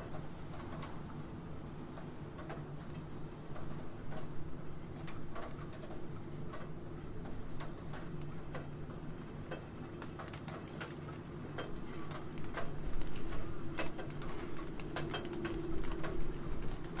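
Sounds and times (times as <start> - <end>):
rain: 0.0 - 17.0.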